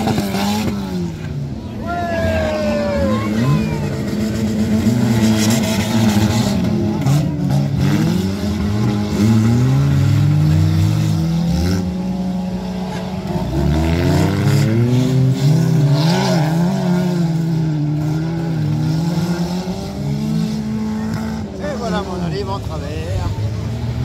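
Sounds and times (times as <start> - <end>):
stock car engines revving: 0.0 - 24.0.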